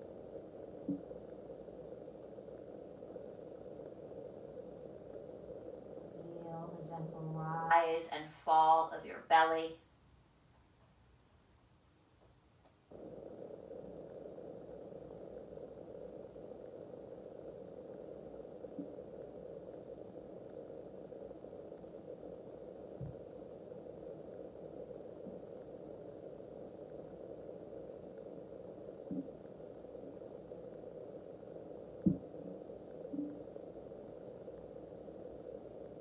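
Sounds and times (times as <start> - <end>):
low room hum: 0.0 - 36.0.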